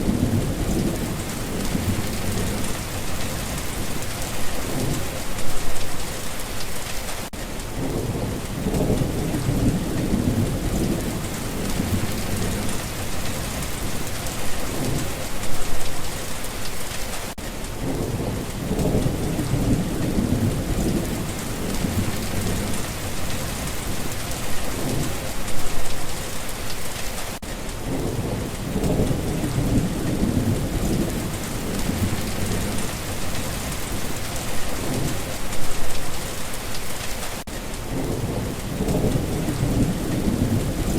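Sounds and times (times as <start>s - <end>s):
thunder rumbling: 0.0s - 6.2s, 7.6s - 16.1s, 17.7s - 26.4s, 27.8s - 37.0s, 37.8s - 40.9s
steady rain: 0.0s - 40.9s.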